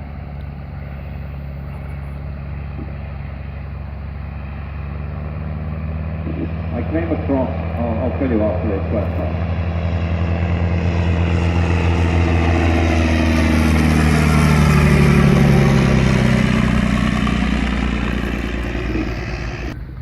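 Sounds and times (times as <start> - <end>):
propeller aircraft flying past: 0.0 - 20.0.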